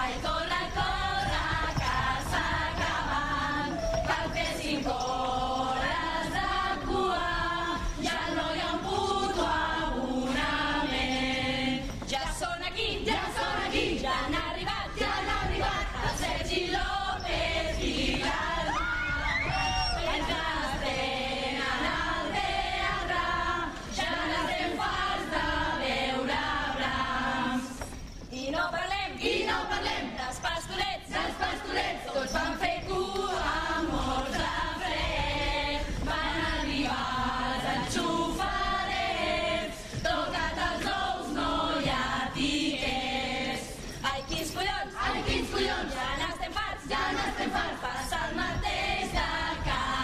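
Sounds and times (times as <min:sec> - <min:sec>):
chorus singing: 0:00.0 - 0:50.0.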